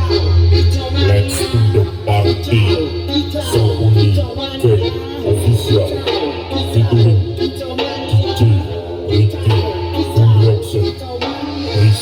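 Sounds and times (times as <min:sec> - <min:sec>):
loud dance music on speakers: 0:00.0 - 0:12.0.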